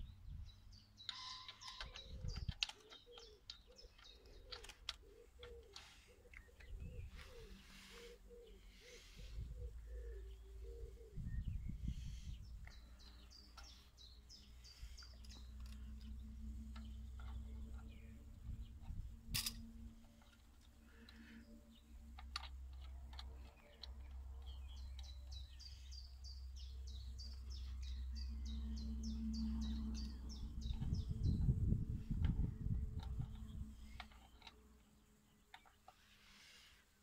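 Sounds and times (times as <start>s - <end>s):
small bird chirping: 0.0s - 36.8s
low steady hum: 3.5s - 36.5s.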